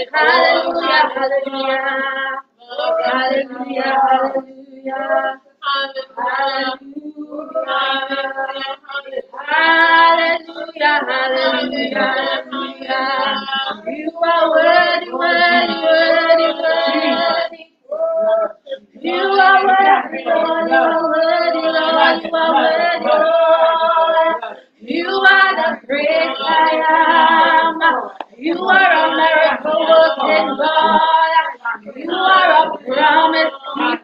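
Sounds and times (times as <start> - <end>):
group singing worship song: 0.0 - 34.0.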